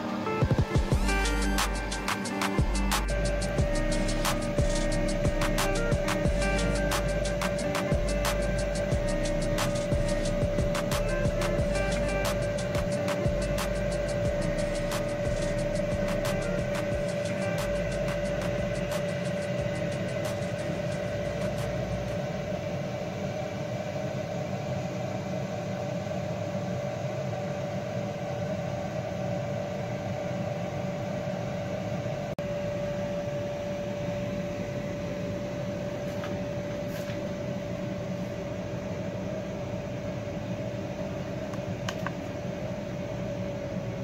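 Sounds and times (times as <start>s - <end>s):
fan motor whine: 0.0s - 44.0s.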